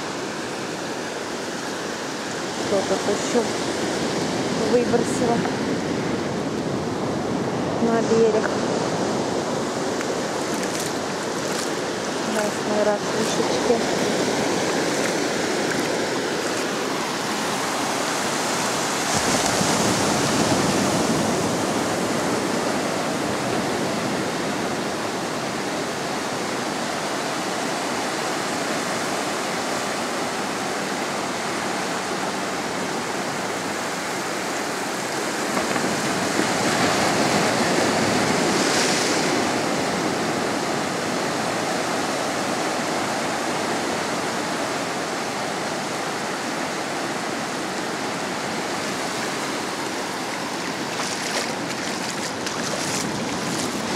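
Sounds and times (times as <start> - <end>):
waves breaking on a beach: 0.0 - 53.9.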